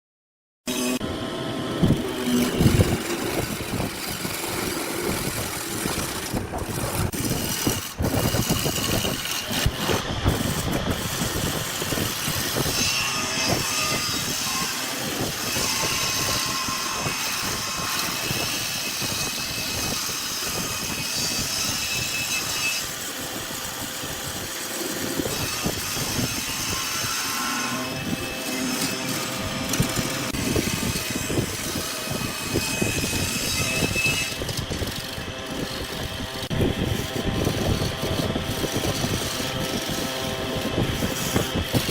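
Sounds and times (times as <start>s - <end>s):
wood lathe running: 0.9s - 41.9s
turning tool scraping wood: 1.8s - 41.9s.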